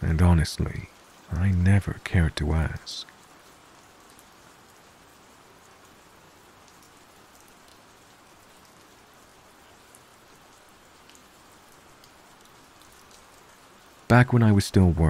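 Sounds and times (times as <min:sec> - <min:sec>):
light raindrop ticks: 0:00.0 - 0:15.0
steady rain: 0:00.0 - 0:15.0.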